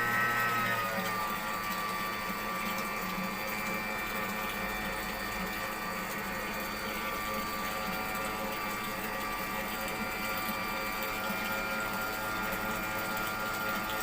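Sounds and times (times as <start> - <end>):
electric pump humming: 0.0 - 14.0
liquid flowing: 0.0 - 14.0.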